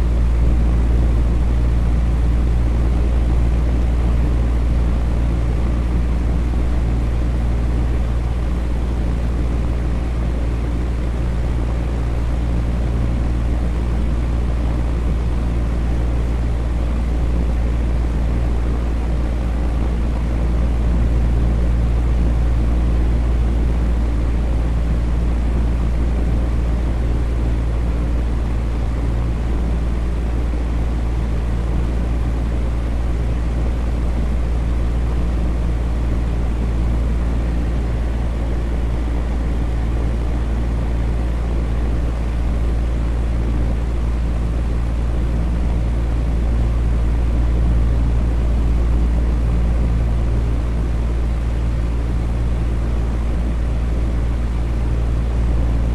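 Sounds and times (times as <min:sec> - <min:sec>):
electric fan rushing: 0:00.0 - 0:55.9
low motor hum: 0:00.0 - 0:55.9.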